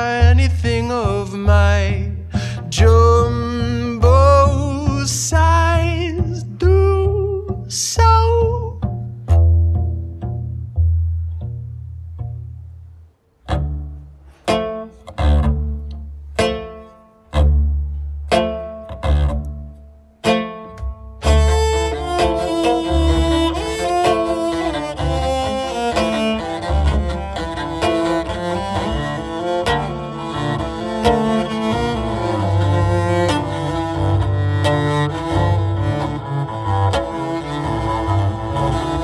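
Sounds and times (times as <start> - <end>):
cello playing: 0.0 - 39.0.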